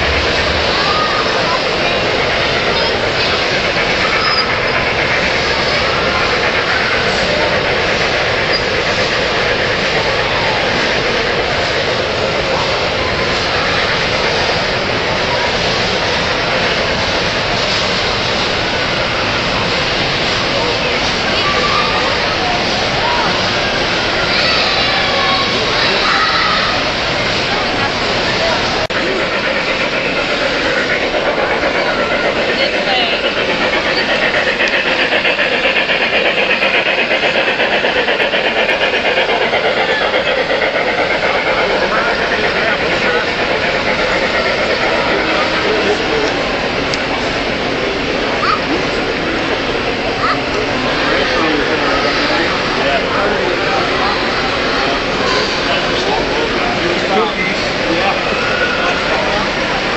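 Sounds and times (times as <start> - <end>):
exhibition hall crowd din: 0.0 - 59.9
model train rolling on track: 0.0 - 59.9.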